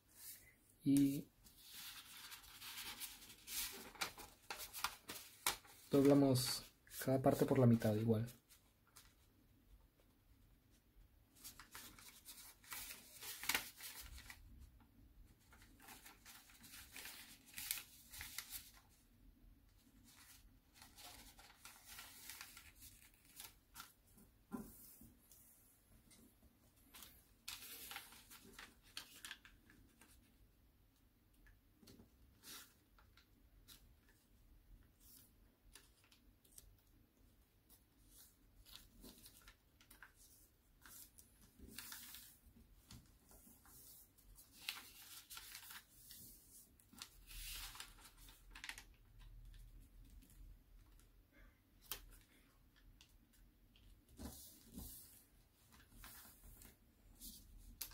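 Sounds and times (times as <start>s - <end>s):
paper folding and crinkling: 0.1s - 9.4s, 11.3s - 19.0s, 19.6s - 30.5s, 31.8s - 37.0s, 37.6s - 57.9s.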